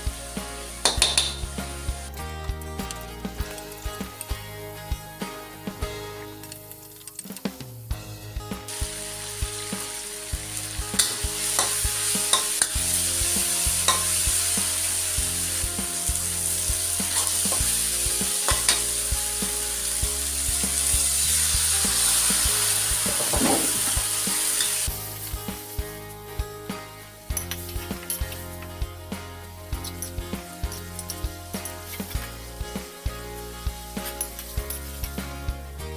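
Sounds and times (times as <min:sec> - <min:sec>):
food sizzling in a hot pan: 0:00.0 - 0:02.2, 0:08.7 - 0:35.4.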